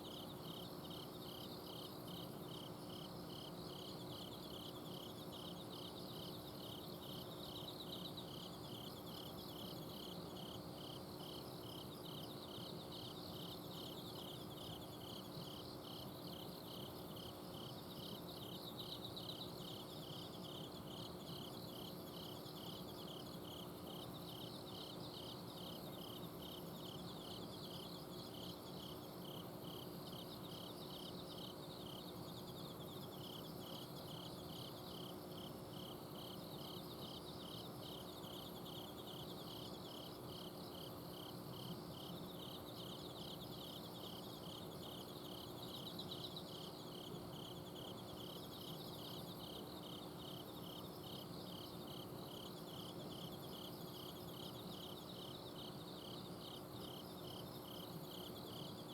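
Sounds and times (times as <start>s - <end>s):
crickets chirping: 0.0s - 58.9s
insects trilling: 0.0s - 58.9s.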